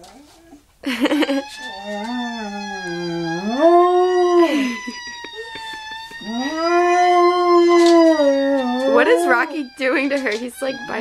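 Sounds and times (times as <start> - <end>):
dog howling: 1.2 - 11.0.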